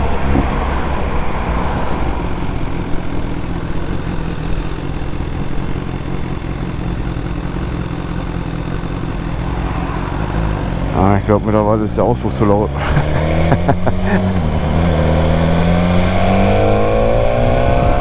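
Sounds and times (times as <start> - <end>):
motorcycle engine running at low revs: 0.0 - 18.0.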